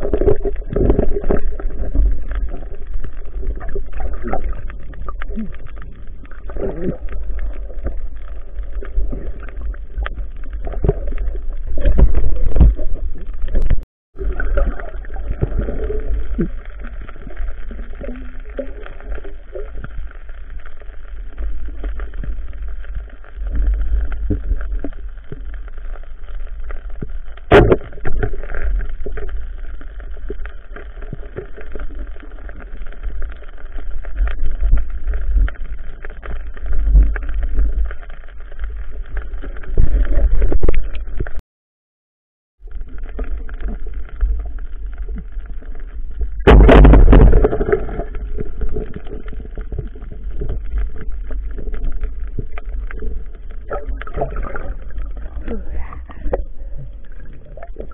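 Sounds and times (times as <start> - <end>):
muffled underwater rumble: 0.0 - 41.4, 42.6 - 57.9.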